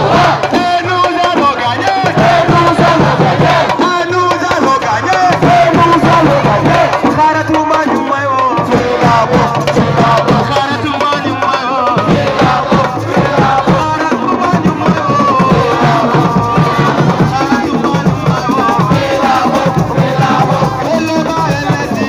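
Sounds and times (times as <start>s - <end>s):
crowd singing and chanting: 0.0s - 22.0s
rhythmic drumming: 0.0s - 22.0s.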